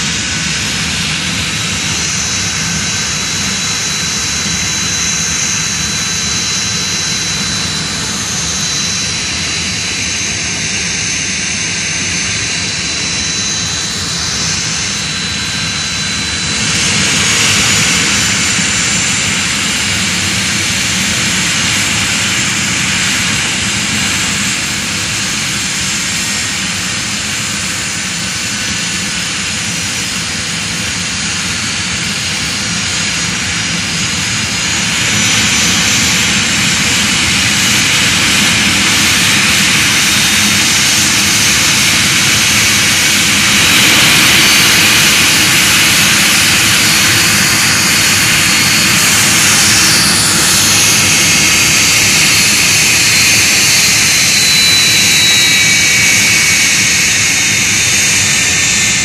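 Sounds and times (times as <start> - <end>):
turbine engine roaring and whining: 0.0 - 59.0.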